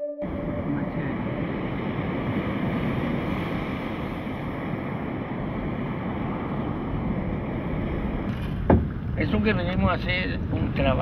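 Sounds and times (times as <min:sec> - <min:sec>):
steady rushing noise: 0:00.2 - 0:11.0.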